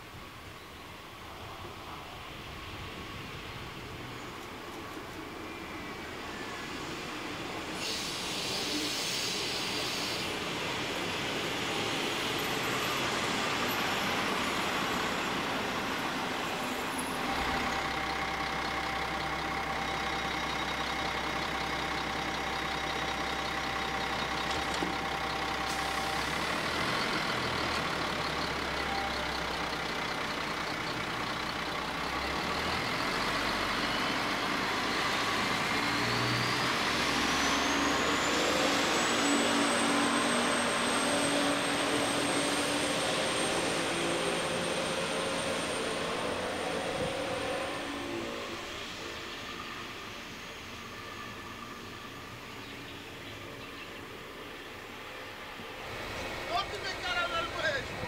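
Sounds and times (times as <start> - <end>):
diesel railcar whine: 0.0 - 58.0
train rumbling slowly: 0.0 - 58.0.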